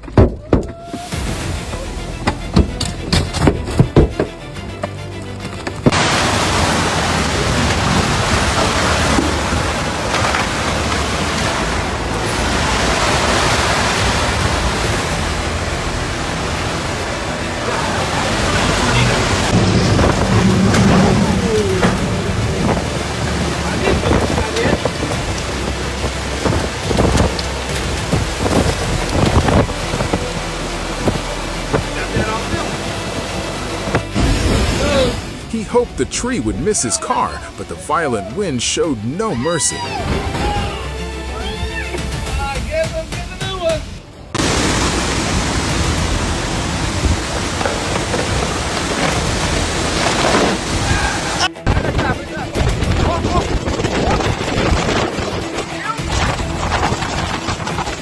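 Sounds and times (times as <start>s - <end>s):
heavy rain pelting: 0.7s - 58.0s
storm wind: 0.9s - 37.8s, 44.0s - 58.0s.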